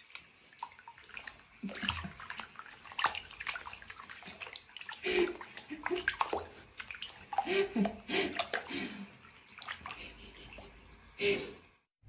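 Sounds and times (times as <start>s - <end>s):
water sloshing and splashing in basin: 0.0s - 11.8s.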